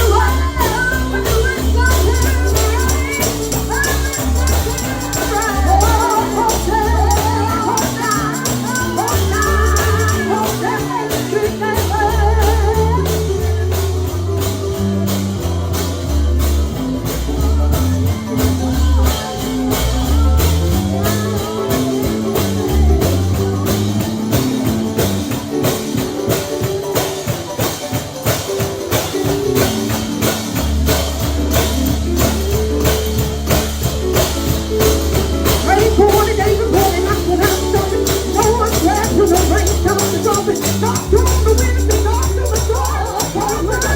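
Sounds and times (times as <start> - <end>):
bass line: 0.0 - 26.8, 27.6 - 43.9
gospel band playing: 0.0 - 43.9
person singing: 0.0 - 43.9
tambourine: 0.0 - 43.9.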